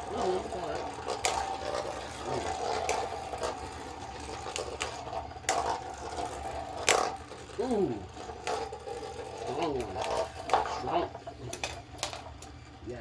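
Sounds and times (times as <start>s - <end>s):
spinning tops clacking together: 0.0s - 12.7s
spinning tops whirring: 0.0s - 13.0s.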